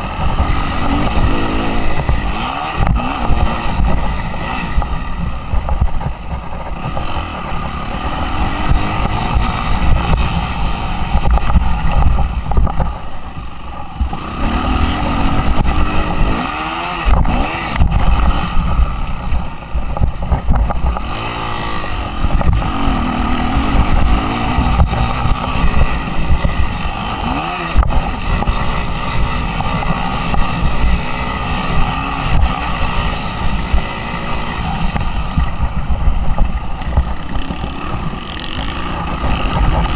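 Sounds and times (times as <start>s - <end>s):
motocross engine revving: 0.0s - 39.9s
wind buffeting microphone: 0.0s - 39.9s.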